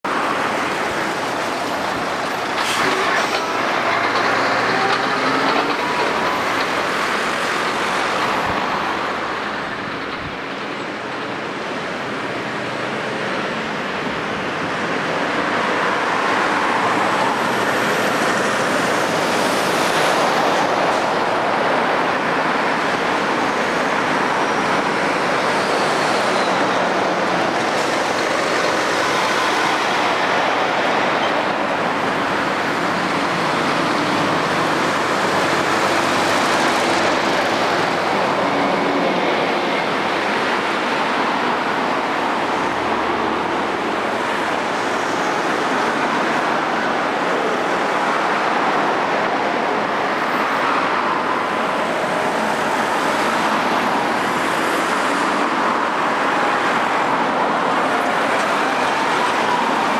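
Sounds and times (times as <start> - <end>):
lorries and cars passing: 0.0 - 59.9.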